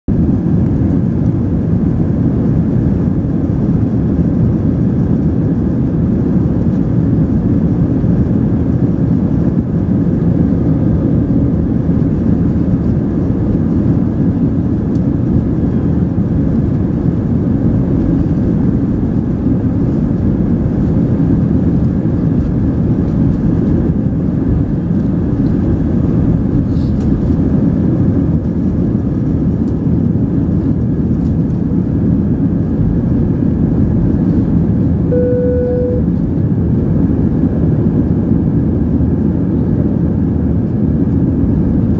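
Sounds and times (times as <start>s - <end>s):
airliner engines rumbling: 0.1s - 41.9s.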